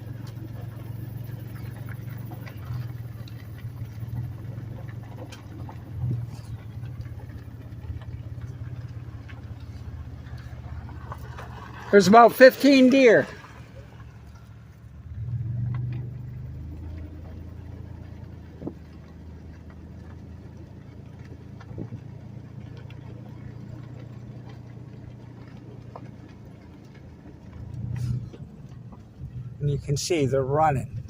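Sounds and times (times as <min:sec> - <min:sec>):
vehicle engine running at low revs: 0:00.0 - 0:31.0.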